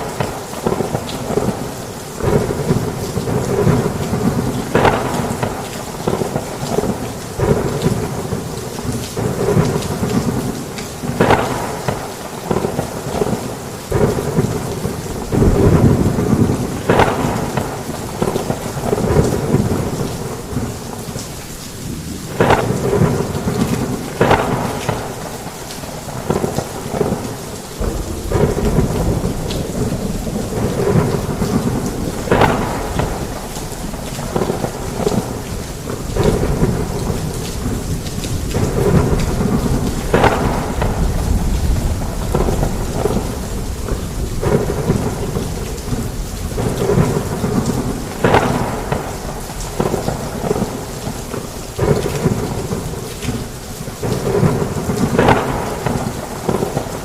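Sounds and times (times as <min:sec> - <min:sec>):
sharp thunder cracks: 0:00.0 - 0:20.8, 0:21.9 - 0:53.4, 0:54.0 - 0:57.0
rolling thunder: 0:00.0 - 0:21.2, 0:21.8 - 0:57.0
heavy rain: 0:00.0 - 0:57.0.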